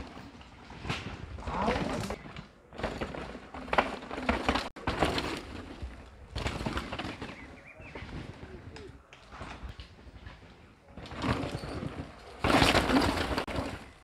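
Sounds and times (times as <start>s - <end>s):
bike tyres skidding on dirt: 0.0s - 14.0s.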